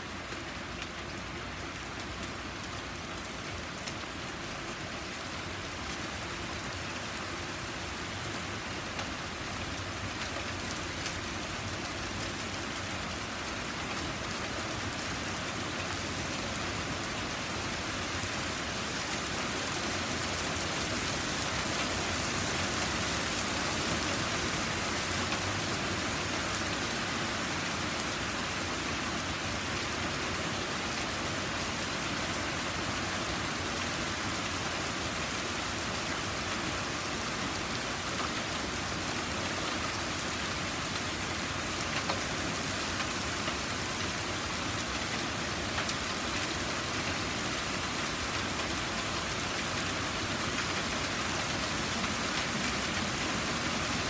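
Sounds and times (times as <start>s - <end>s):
heavy rain on a wooden deck: 0.0s - 54.0s.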